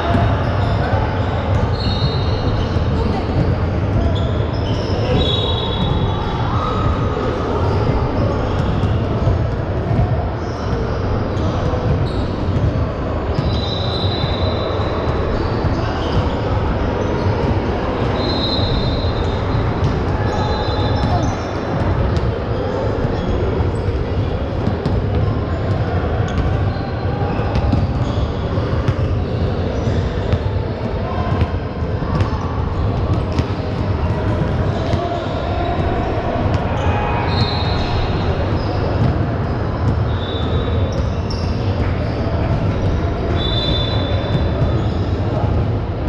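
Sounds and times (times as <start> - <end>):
crowd chatter: 0.0 - 46.0
basketball bouncing on court: 0.1 - 45.6.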